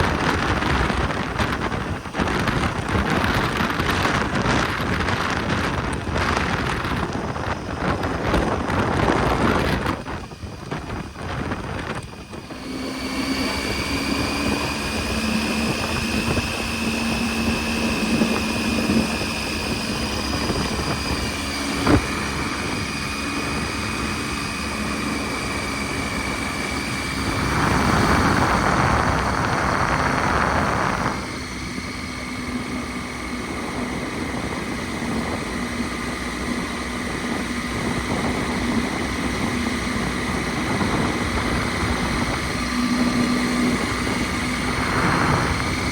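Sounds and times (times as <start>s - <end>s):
motorcycle engine running: 0.0s - 45.9s
rush of noise: 0.0s - 45.9s.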